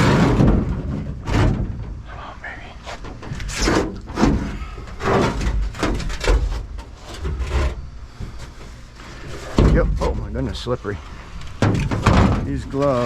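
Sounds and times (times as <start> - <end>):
scrap metal clunking and clattering: 0.0 - 2.0, 3.0 - 13.0.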